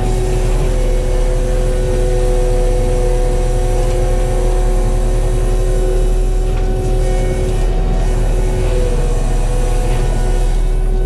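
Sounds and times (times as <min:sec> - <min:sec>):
diesel engine low rumble: 0:00.0 - 0:11.0
mulcher whine: 0:00.0 - 0:11.0.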